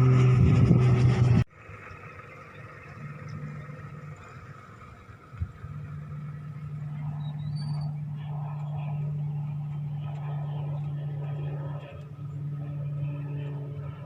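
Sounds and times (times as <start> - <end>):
aircraft engine running: 0.0 - 14.0
faint engine hum: 0.0 - 14.0.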